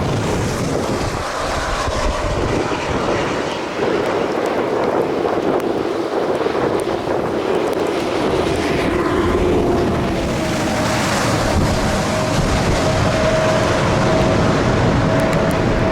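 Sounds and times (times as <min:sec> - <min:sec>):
wind on microphone: 0:00.0 - 0:15.9.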